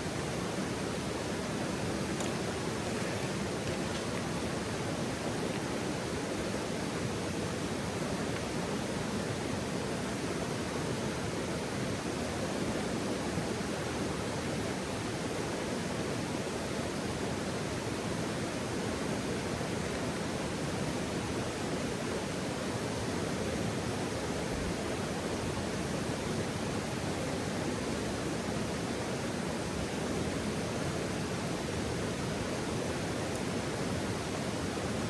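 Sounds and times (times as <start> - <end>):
rushing outdoor ambience: 0.0 - 35.0.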